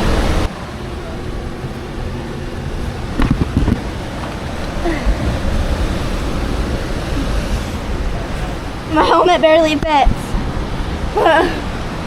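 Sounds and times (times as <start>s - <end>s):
ocean surf: 0.0s - 12.0s
wind on microphone: 0.0s - 12.0s.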